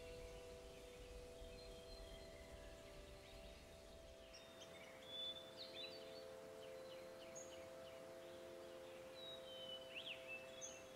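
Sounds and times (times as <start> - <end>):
songbirds chirping faintly: 0.0 - 10.9.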